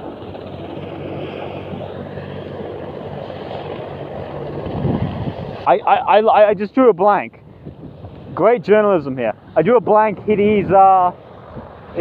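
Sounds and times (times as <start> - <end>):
helicopter running: 0.0 - 12.0.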